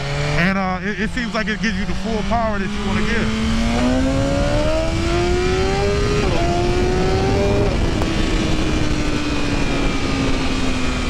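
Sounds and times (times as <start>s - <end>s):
motorcycle engine revving through upshifts: 0.0s - 11.0s.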